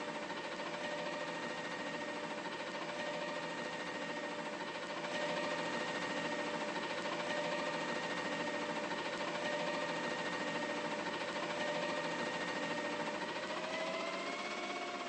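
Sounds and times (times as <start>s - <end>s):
garbage truck mechanical whine: 0.0s - 15.0s.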